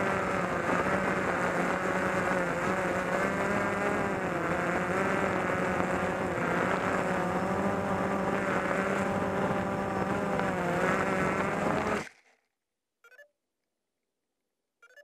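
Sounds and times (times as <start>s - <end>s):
drone propellers whining: 0.0s - 12.1s.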